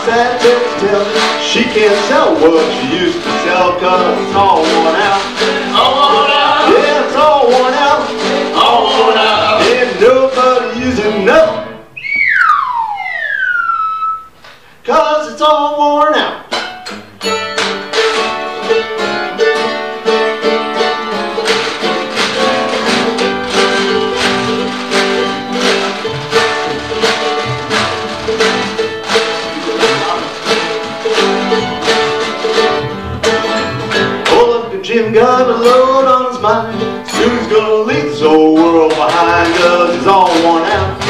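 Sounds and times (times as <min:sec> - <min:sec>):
picked mandolin: 0:00.0 - 0:11.9, 0:16.5 - 0:41.0
strummed acoustic guitar: 0:00.0 - 0:12.0, 0:16.2 - 0:41.0.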